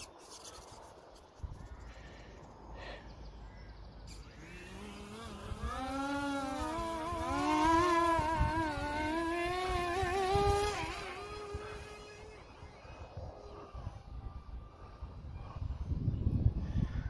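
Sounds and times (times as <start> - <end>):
electric propeller buzzing whine: 0.0 - 16.7.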